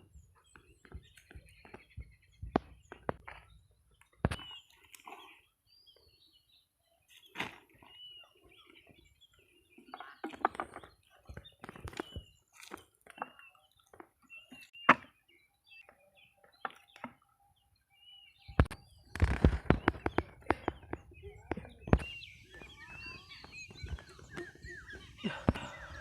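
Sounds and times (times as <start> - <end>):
bird chirps: 0.0 - 26.0.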